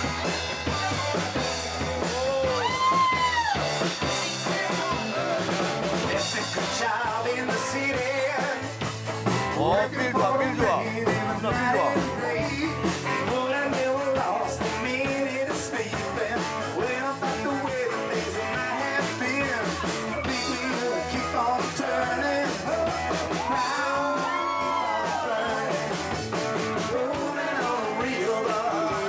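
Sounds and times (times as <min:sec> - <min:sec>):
person singing: 0:00.0 - 0:08.8, 0:09.4 - 0:29.0
drums steady beat: 0:00.0 - 0:29.0
electric guitar: 0:00.0 - 0:29.0.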